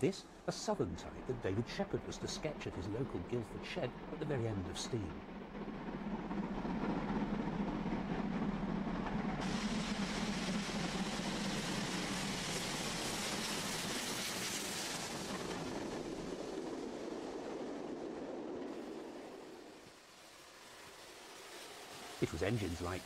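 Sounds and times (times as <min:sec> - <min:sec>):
steam locomotive passing: 0:00.0 - 0:23.0.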